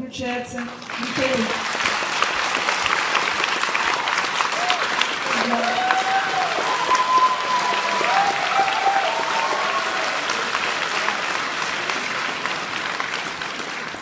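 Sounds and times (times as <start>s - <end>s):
audience applauding: 0.6s - 14.0s.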